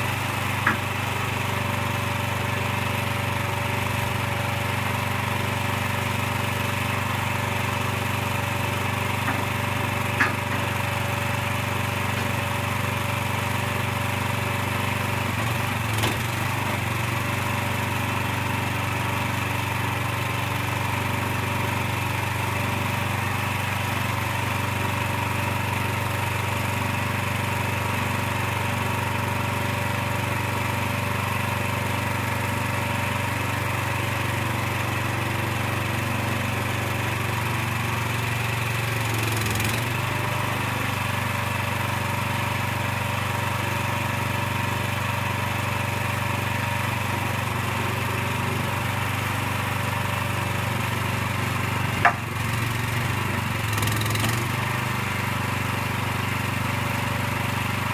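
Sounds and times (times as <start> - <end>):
small engine running: 0.0 - 57.9.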